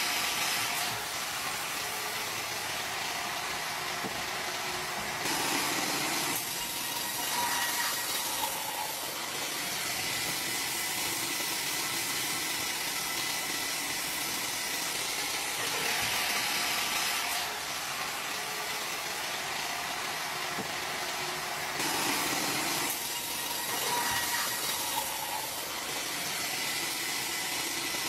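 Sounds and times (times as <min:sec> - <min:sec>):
sawmill hissing machine noise: 0:00.0 - 0:28.0.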